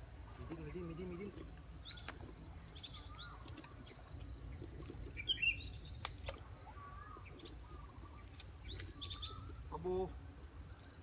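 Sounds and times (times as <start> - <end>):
insect drone: 0.0 - 11.0
bird chirps: 0.3 - 10.0.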